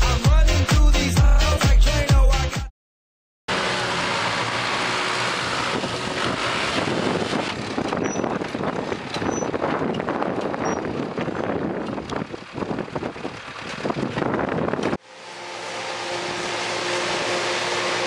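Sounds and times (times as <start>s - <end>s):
tractor diesel engine running: 3.5s - 18.0s.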